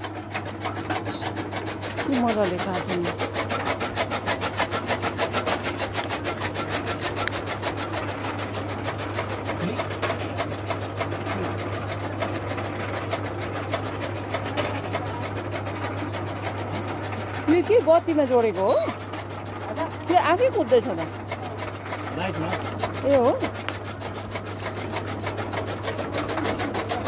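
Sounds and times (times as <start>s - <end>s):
blades chopping fodder: 0.0s - 27.0s
chaff cutter motor hum: 0.0s - 27.0s.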